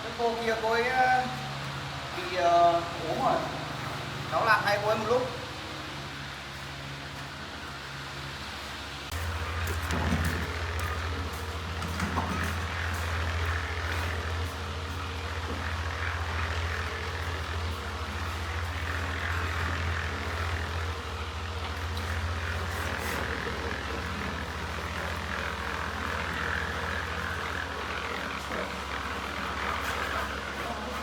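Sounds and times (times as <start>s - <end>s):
machinery engine drone with hiss: 0.0s - 31.0s.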